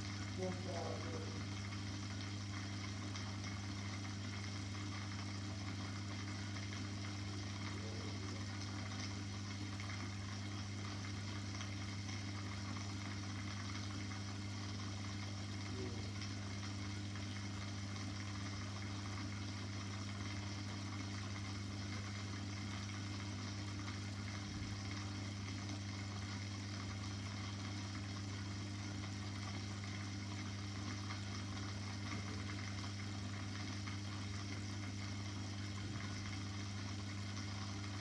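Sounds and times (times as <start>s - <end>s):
aquarium pump humming: 0.0s - 38.0s.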